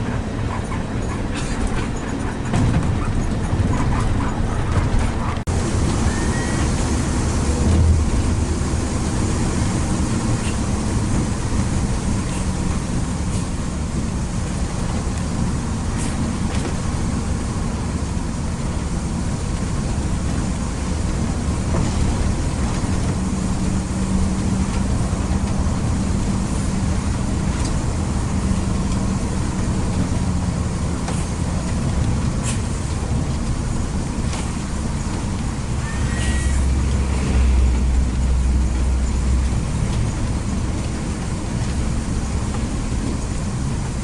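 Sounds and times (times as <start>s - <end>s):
bus engine drone: 0.0s - 44.0s
road noise: 0.0s - 44.0s.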